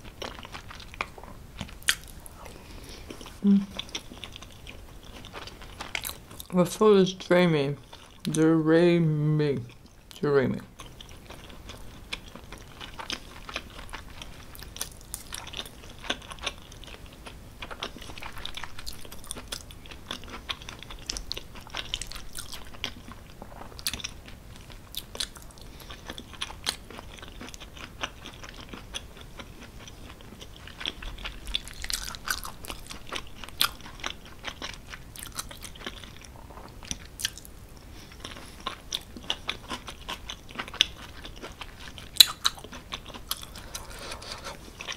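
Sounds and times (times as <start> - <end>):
person chewing food: 0.0 - 6.5, 7.8 - 8.5, 9.6 - 44.9.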